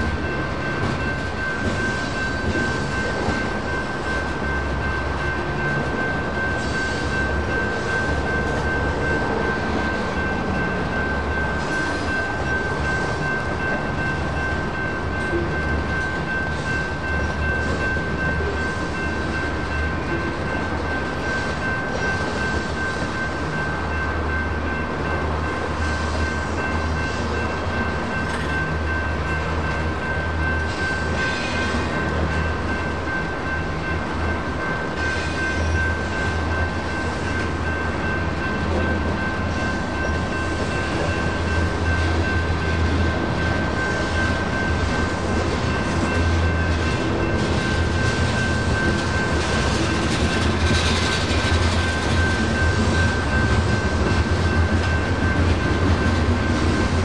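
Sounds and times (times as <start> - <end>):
crossing bell ringing: 0.0 - 57.0
freight train cars rumbling: 0.0 - 57.0.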